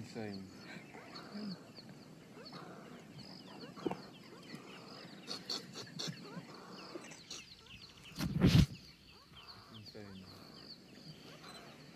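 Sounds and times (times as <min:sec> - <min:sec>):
rapid high chirping of small animals: 0:00.0 - 0:11.9.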